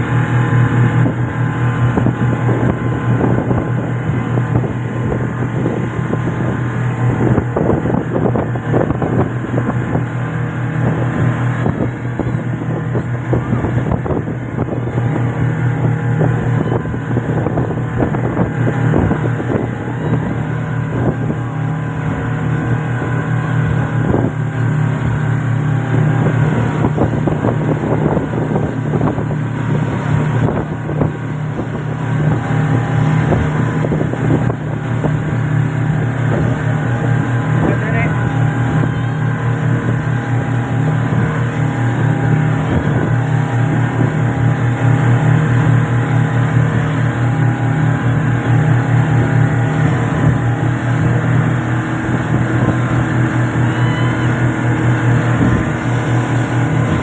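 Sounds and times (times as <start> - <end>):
motorboat engine running: 0.0 - 57.0
wind noise on microphone: 0.0 - 57.0.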